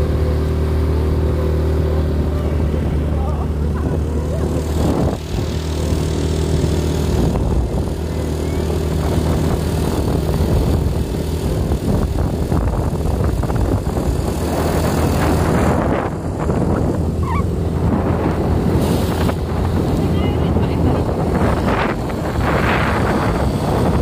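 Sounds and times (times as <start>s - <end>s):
motorcycle engine hum: 0.0s - 24.0s
wind and road noise: 0.0s - 24.0s.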